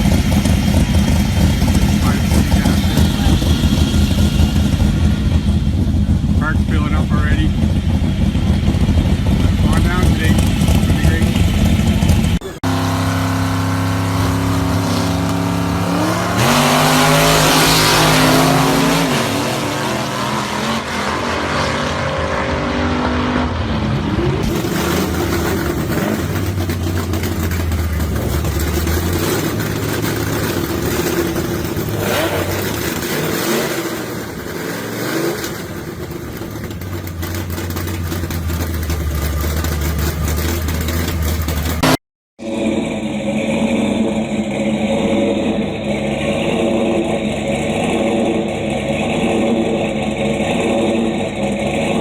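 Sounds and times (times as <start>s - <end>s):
hot rod engine revving: 0.0s - 52.0s.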